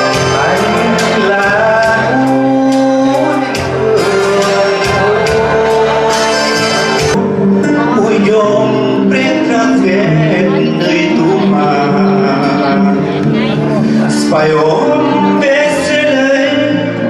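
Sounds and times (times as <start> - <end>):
duet singing into a microphone: 0.0 - 17.0
instrumental backing music: 0.0 - 17.0.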